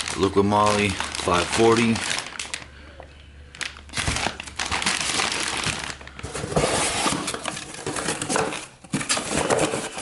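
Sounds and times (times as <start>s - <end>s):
packing material rustling: 0.0s - 10.0s.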